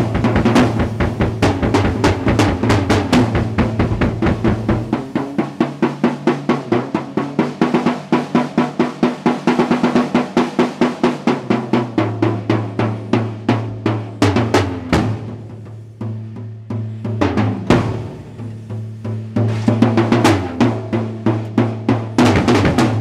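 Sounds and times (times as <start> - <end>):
drum kit solo: 0.0 - 23.0.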